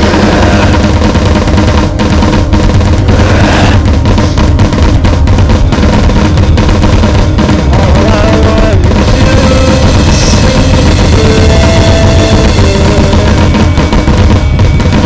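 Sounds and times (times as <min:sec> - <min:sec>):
drum kit pounding: 0:00.0 - 0:15.0
rock band playing: 0:00.0 - 0:15.0.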